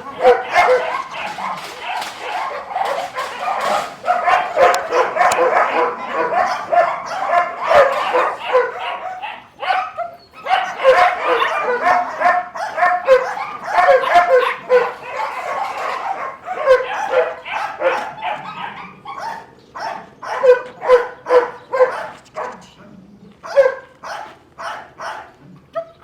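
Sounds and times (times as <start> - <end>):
dog barking and yipping: 0.0 - 22.8, 23.4 - 26.0.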